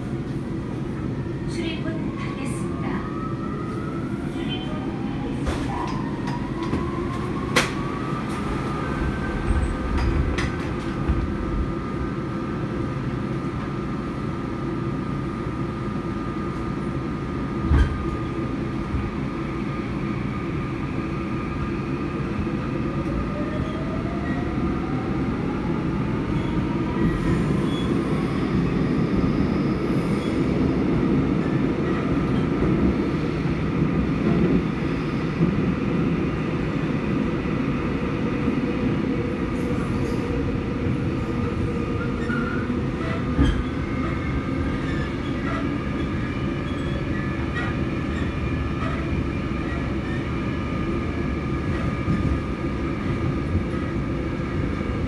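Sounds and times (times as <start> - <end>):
wheels rumbling on rail: 4.3 - 55.0.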